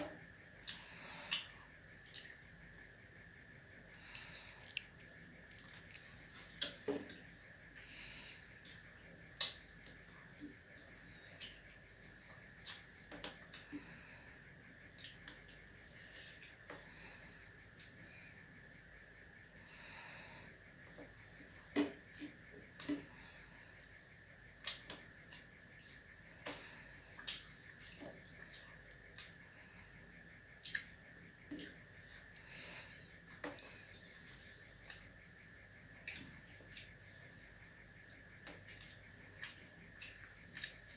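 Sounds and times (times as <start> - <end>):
cricket chirping trill: 0.0 - 40.9.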